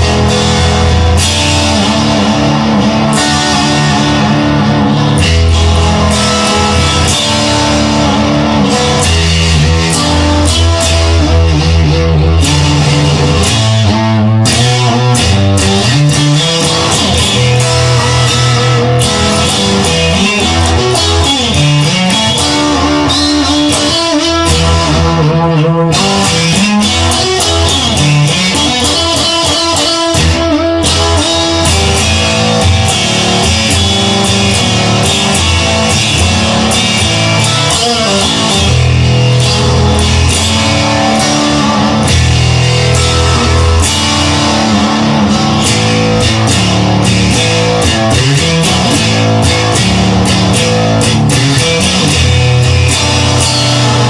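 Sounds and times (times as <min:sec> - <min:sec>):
guitar-led rock music: 0:00.0 - 0:54.0.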